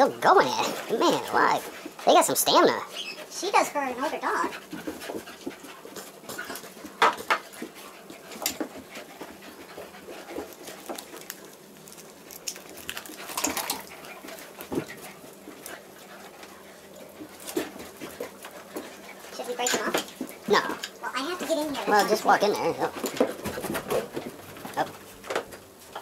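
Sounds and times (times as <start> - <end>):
dogs panting and scuffling: 0.0 - 26.0.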